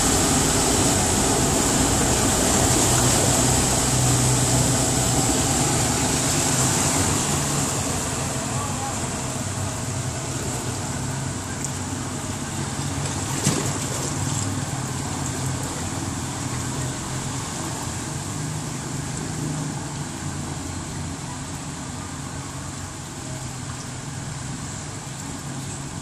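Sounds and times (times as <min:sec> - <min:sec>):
floodwater rushing down street: 0:00.0 - 0:26.0.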